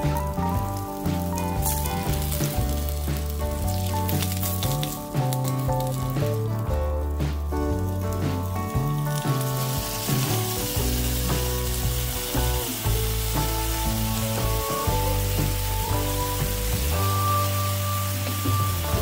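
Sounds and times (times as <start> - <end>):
background music: 0.0 - 19.0
sauce sizzling in frying pan: 0.0 - 19.0.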